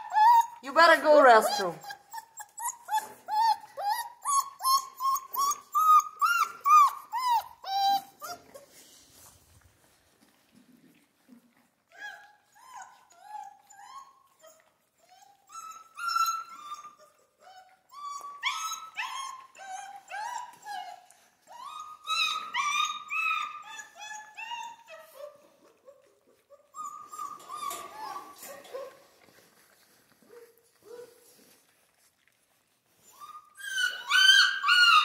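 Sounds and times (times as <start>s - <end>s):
puppies whining and whimpering: 0.0s - 9.4s, 11.6s - 29.1s, 32.8s - 35.0s.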